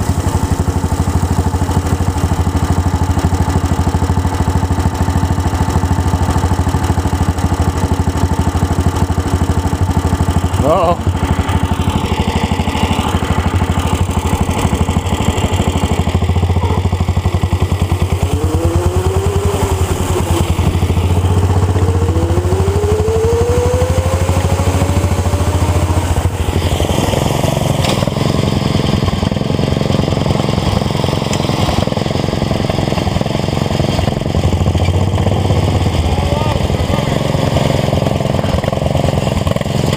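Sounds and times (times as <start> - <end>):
lawn tractor engines running hard: 0.0 - 39.9
rising engine whines: 7.6 - 39.9.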